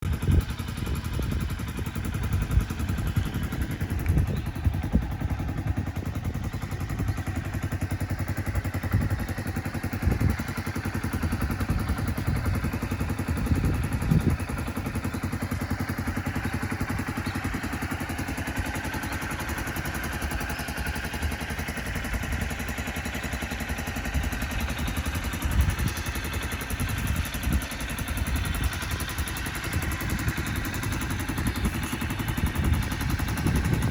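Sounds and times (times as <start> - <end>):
scooter engine running: 0.0 - 33.9.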